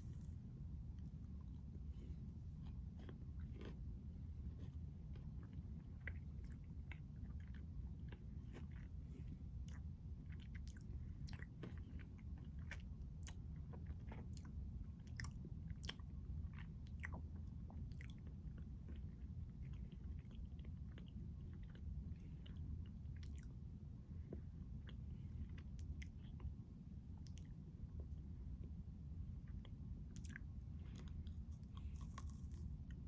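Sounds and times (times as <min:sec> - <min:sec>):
chewing and crunching ice cream bar: 0:00.0 - 0:33.0
steady low hum: 0:00.0 - 0:33.0.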